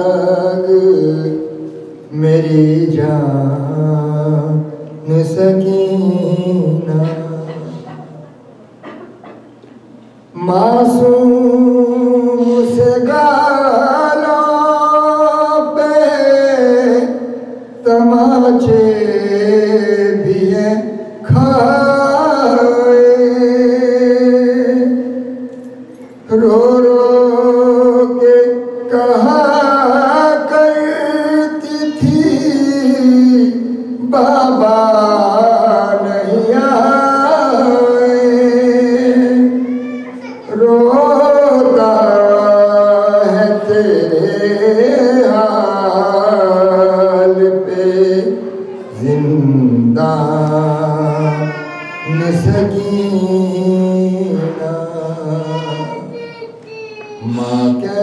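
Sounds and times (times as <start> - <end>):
man chanting into microphone: 0.0 - 8.1, 10.3 - 58.0.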